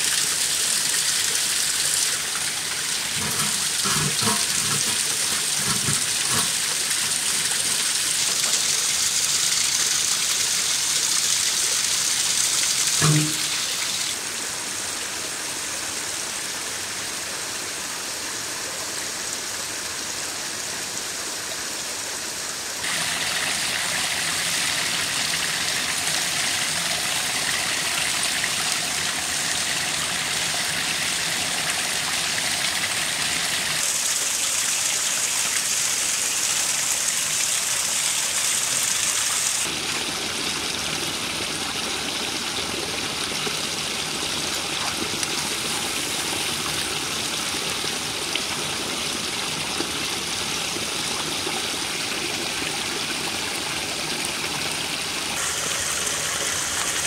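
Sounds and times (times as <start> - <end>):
stream and small waterfall: 0.0 - 57.0.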